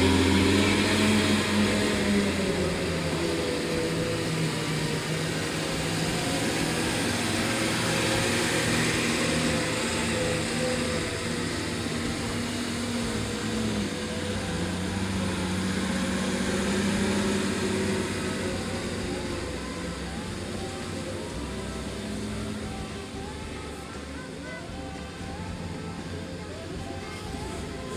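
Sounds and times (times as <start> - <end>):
road and rattle noise: 0.0 - 27.9
truck engine running: 0.0 - 27.9.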